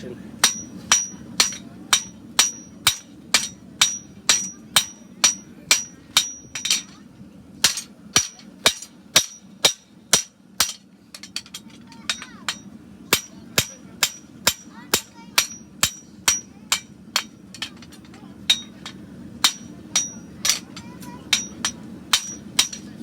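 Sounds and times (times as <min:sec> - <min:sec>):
hammer striking horseshoe on anvil: 0:00.4 - 0:07.0, 0:07.6 - 0:23.0.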